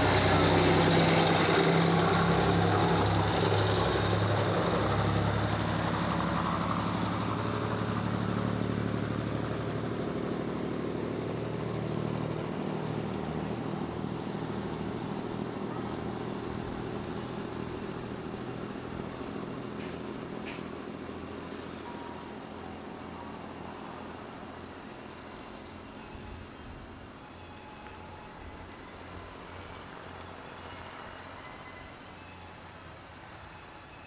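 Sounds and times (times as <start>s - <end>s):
diesel railcar engine running: 0.0s - 34.0s.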